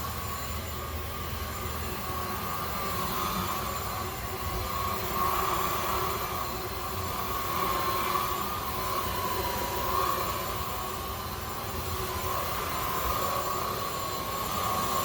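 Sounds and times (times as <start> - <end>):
vacuum motor whine: 0.0 - 15.0.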